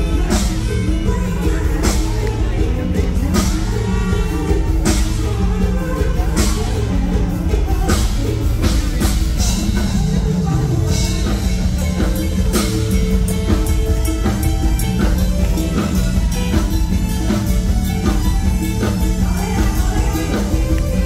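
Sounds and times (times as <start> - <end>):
live band playing: 0.0 - 21.0.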